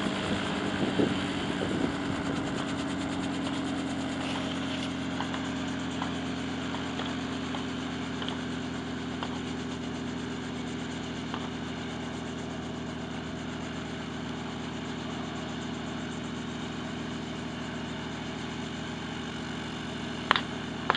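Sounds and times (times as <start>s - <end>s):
helicopter engine and rotor: 0.0s - 20.9s.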